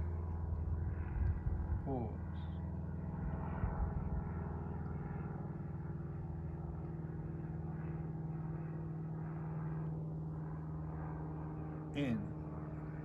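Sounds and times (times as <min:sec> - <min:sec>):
steady low hum-like drone: 0:00.0 - 0:13.0.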